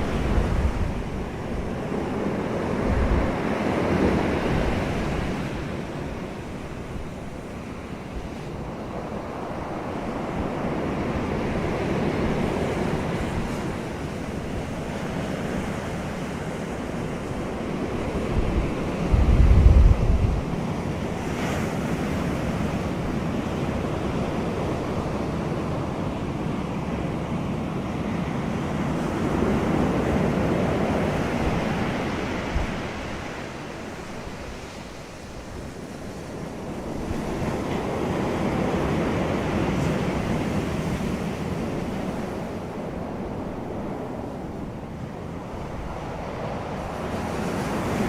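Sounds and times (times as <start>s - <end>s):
wind blowing: 0.0s - 48.0s
wind buffeting microphone: 0.0s - 48.0s.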